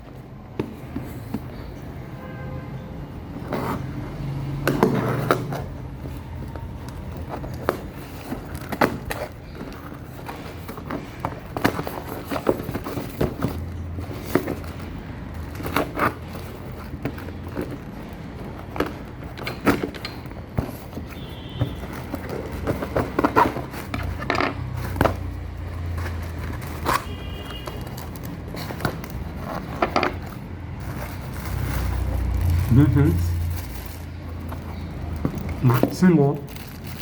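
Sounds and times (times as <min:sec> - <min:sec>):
cardboard box scraping: 0:03.4 - 0:35.9
packaging rustling: 0:03.4 - 0:37.0.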